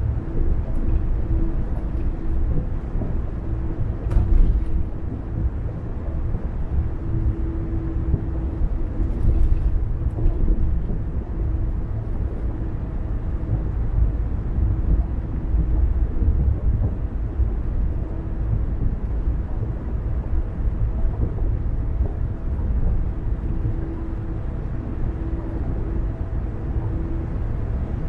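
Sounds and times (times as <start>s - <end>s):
faint steady hum: 0.0s - 28.0s
road and tyre rumble: 0.0s - 28.0s.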